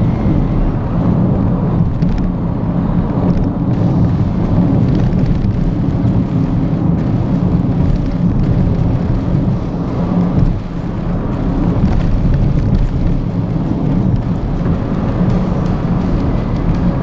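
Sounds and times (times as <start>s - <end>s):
car engine: 0.0s - 17.0s
road and tyre rumble: 0.0s - 17.0s.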